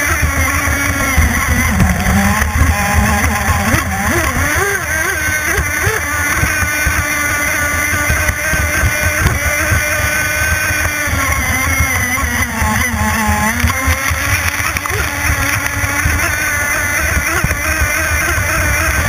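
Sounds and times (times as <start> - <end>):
model boat engine whining: 0.0 - 19.0.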